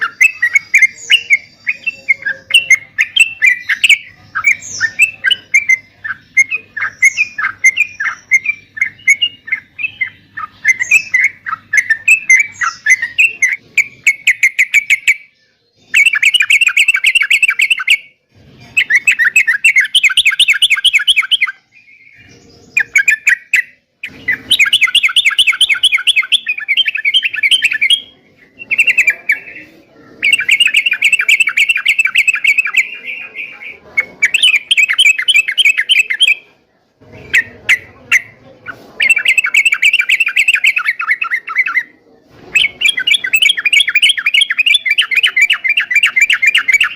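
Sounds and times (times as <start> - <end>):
bulbul chattering song: 0.0 - 46.9.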